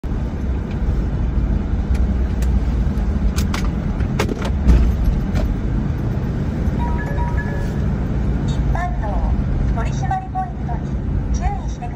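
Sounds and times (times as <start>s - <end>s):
car engine and tyre rumble: 0.0s - 11.9s.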